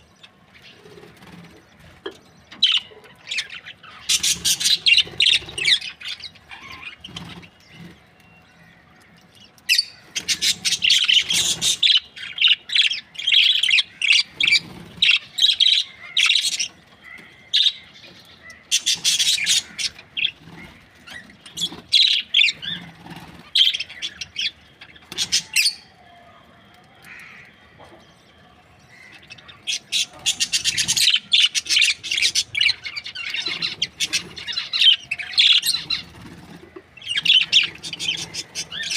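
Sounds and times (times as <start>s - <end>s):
budgerigars chattering and chirping: 0.2s - 8.0s, 9.7s - 25.8s, 29.0s - 38.9s.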